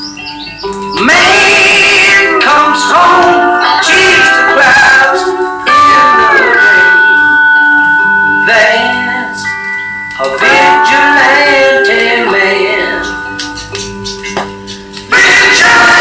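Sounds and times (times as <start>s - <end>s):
plucked blues guitar: 0.0s - 16.0s
person singing: 0.9s - 7.4s, 8.2s - 13.6s, 15.1s - 16.0s.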